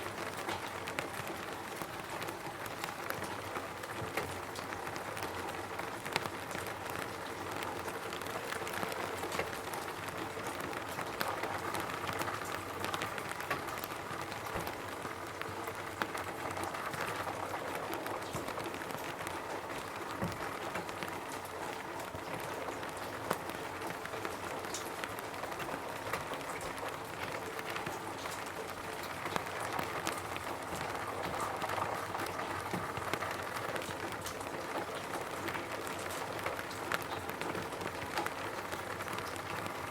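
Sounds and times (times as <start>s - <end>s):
rain pattering on roof: 0.0s - 39.9s.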